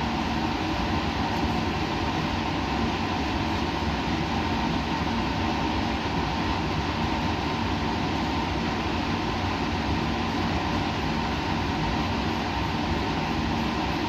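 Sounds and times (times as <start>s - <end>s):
white noise rush: 0.0s - 14.0s.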